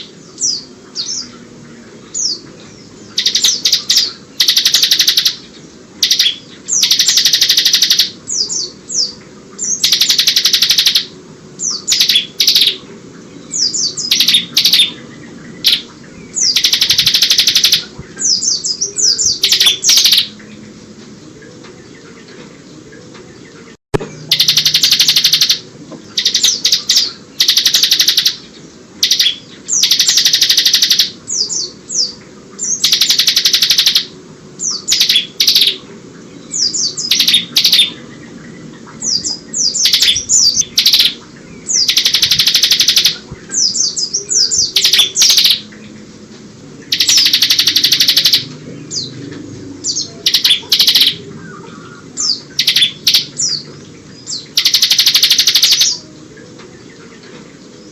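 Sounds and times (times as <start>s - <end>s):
bird trilling and chirping: 2.1s - 20.6s, 24.0s - 46.0s, 46.8s - 56.1s.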